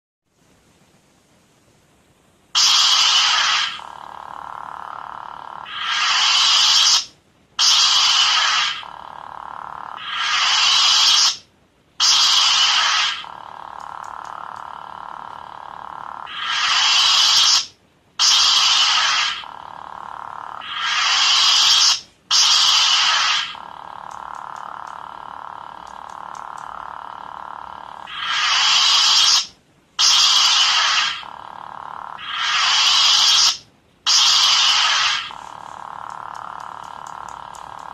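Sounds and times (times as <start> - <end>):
lightsaber hum: 2.5 - 37.9
lightsaber ignition sound: 2.6 - 9.0, 9.6 - 11.4, 12.0 - 37.9.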